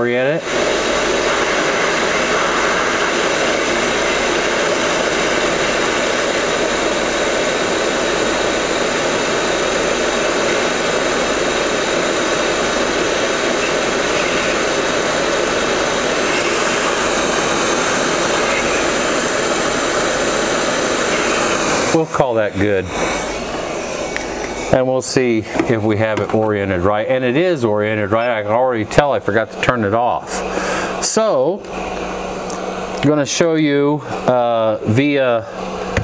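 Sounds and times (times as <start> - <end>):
hot air blower rushing: 0.0 - 36.0.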